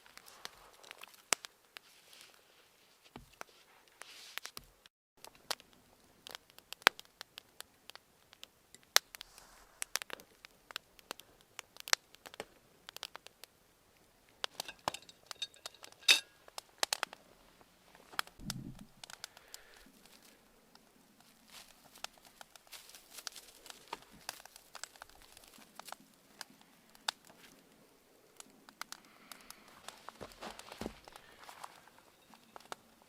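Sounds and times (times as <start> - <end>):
sharp clicks and crackles: 0.0 - 2.4, 3.3 - 17.2, 18.0 - 33.0.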